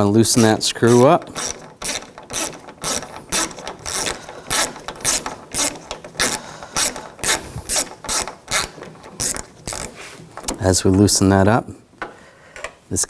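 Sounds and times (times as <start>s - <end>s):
ratchet clicking: 0.0s - 11.1s.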